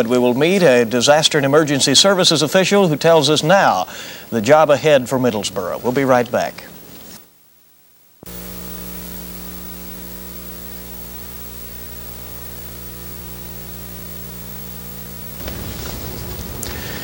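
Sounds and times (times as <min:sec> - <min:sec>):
low mains hum: 0:00.0 - 0:17.0
static hiss: 0:00.0 - 0:17.0.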